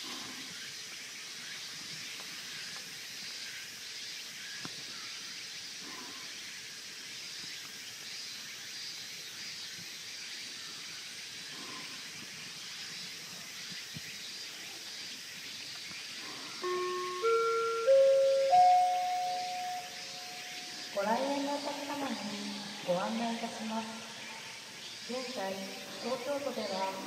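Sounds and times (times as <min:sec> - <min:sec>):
high-pitched background hiss: 0:00.0 - 0:27.0.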